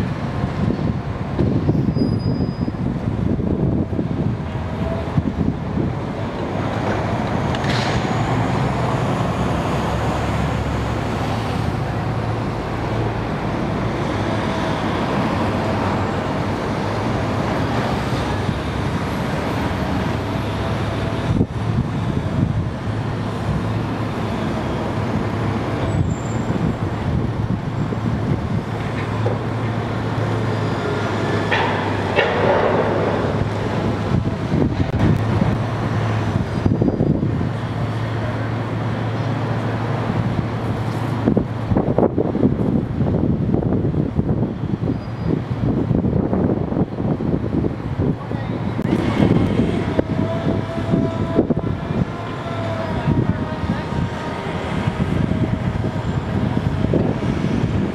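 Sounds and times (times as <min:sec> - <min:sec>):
street traffic: 0:00.0 - 0:57.9
excavator diesel drone: 0:02.8 - 0:44.8, 0:45.7 - 0:57.9.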